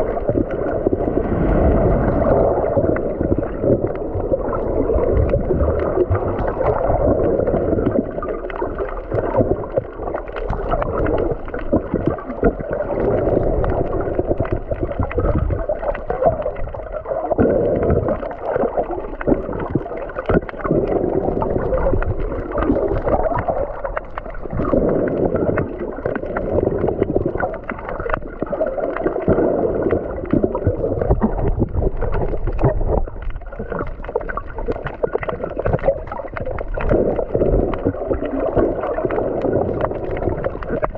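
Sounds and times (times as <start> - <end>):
underwater gurgling: 0.0 - 40.9.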